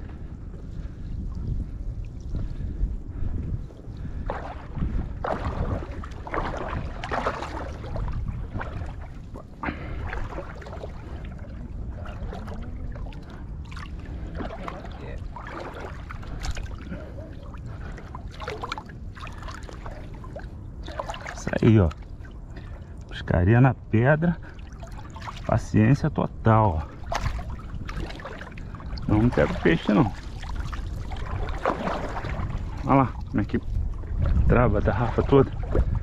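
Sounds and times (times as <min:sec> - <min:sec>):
water splashing and dripping: 0:04.0 - 0:23.2, 0:24.4 - 0:25.7, 0:26.9 - 0:36.0.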